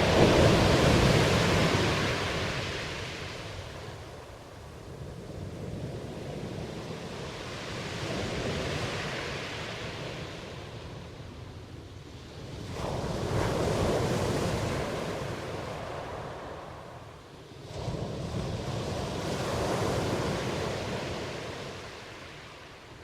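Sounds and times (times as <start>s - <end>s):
ocean waves breaking ashore: 0.0s - 23.0s.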